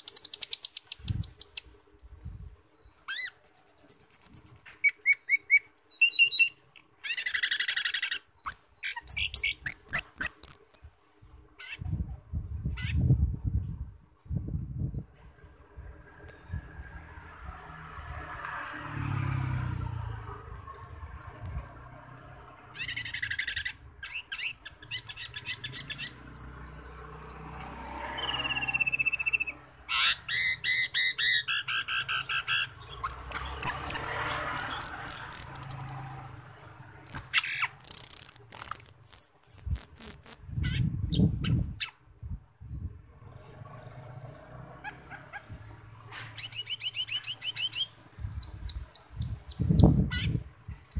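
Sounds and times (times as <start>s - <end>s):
starling singing: 0.0s - 13.2s, 16.2s - 16.7s, 18.3s - 42.0s, 46.4s - 50.9s.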